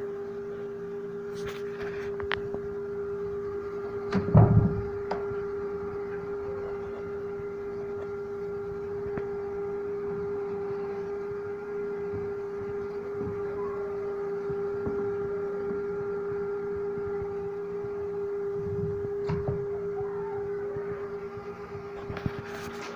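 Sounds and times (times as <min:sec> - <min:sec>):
incubator humming: 0:00.0 - 0:22.9.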